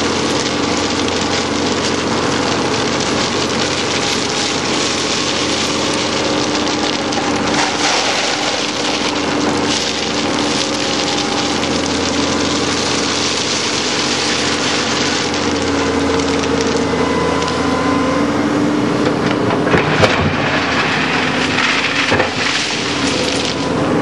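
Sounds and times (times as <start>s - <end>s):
steel bucket digging into stone: 0.0s - 17.0s, 19.7s - 23.7s
excavator diesel engine running: 0.0s - 24.0s.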